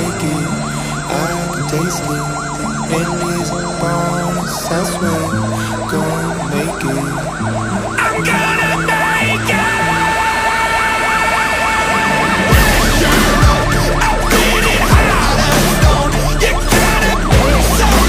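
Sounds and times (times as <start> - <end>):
siren wailing down in pitch: 0.0 - 18.0
siren yelping: 0.0 - 18.0
steady high siren tone: 0.0 - 18.0.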